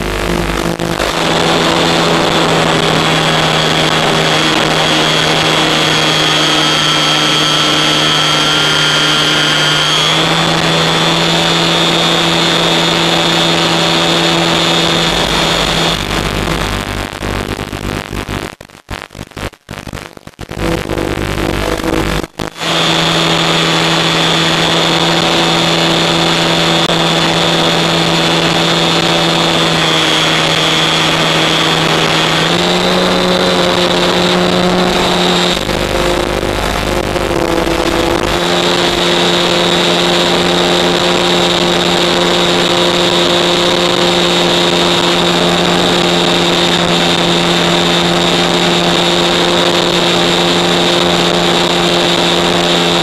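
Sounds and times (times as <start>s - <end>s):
electric motor and propeller whine: 0.0s - 16.4s, 20.8s - 53.0s.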